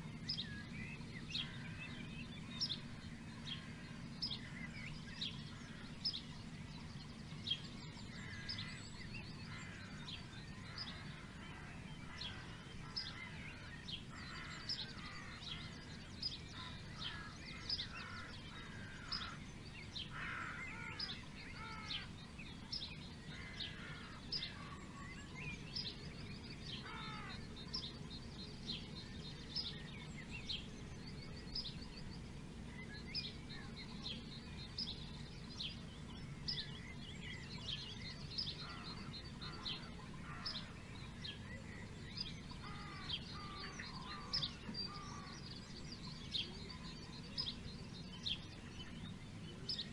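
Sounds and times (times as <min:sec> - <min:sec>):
songbirds chirping and singing: 0:00.0 - 0:49.9
steady low background hum: 0:00.0 - 0:49.9.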